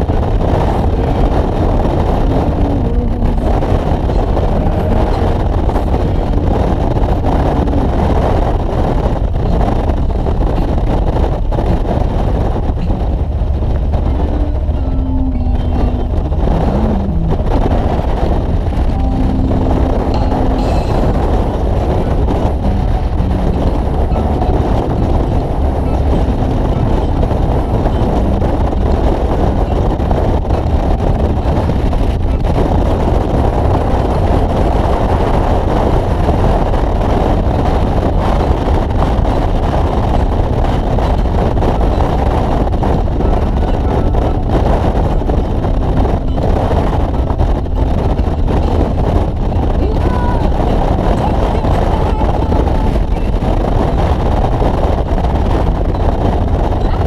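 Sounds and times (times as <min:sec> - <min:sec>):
motorcycle engine cruising: 0:00.0 - 0:57.0
wind rushing on microphone: 0:00.0 - 0:57.0.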